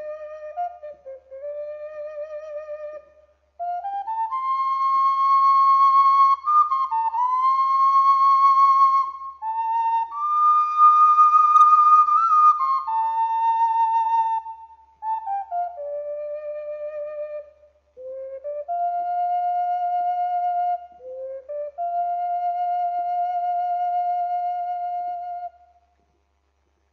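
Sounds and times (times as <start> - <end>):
slow flute melody: 0.0 - 25.8.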